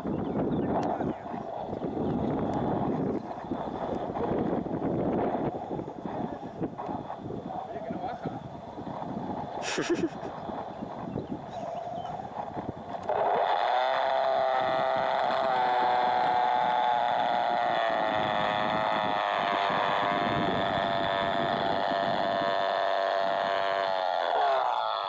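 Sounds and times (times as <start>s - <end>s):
electric motor and propeller whining: 0.0s - 25.0s.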